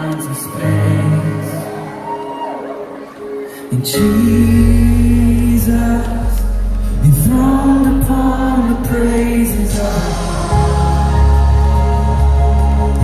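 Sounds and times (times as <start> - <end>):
worship band playing over pa: 0.0 - 13.0.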